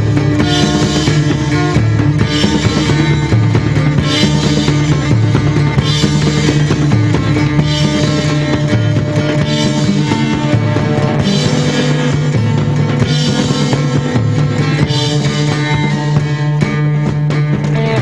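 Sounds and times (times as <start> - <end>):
psychedelic rock band playing: 0.0 - 18.0.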